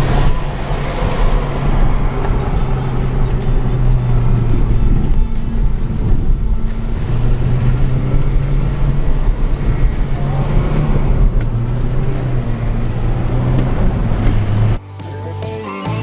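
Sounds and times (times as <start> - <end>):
sports car engine droning: 0.0 - 15.4
rushing background noise: 0.0 - 16.0.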